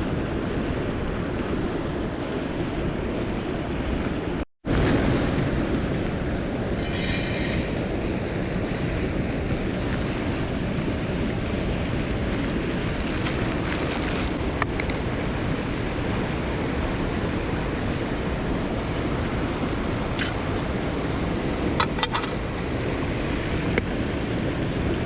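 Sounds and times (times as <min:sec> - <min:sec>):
mountain stream flowing: 0:00.0 - 0:25.0.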